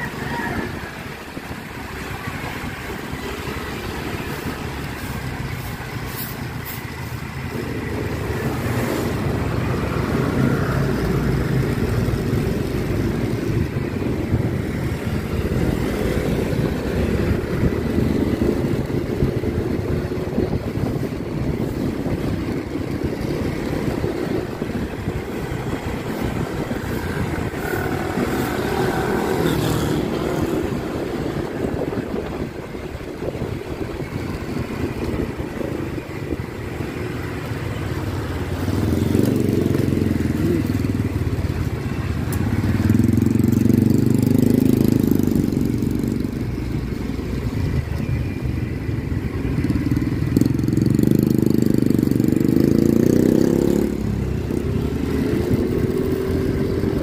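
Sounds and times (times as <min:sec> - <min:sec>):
motorcycle engine and tyre noise: 0:00.0 - 0:57.0
wind rushing over microphone: 0:00.0 - 0:57.0.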